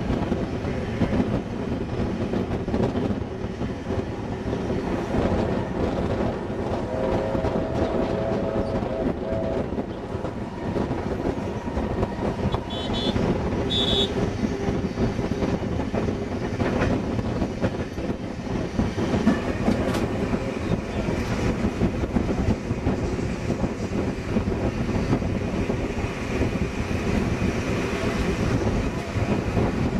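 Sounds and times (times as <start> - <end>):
train wheels clicking over rail joints: 0.0 - 29.9.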